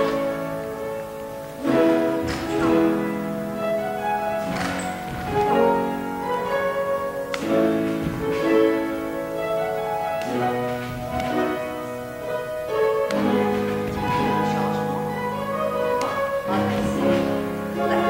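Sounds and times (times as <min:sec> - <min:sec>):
slow classical piano: 0:00.0 - 0:18.0.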